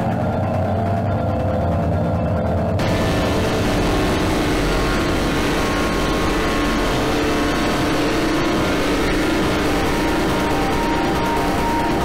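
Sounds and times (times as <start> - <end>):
distorted electronic music: 0.0 - 12.0.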